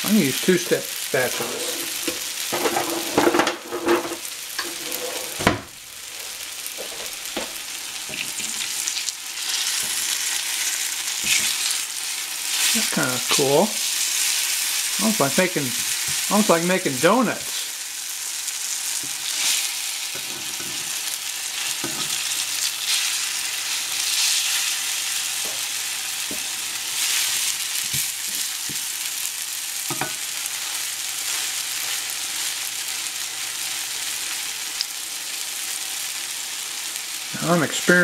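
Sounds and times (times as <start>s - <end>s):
batter sizzling in a pan: 0.0s - 38.0s.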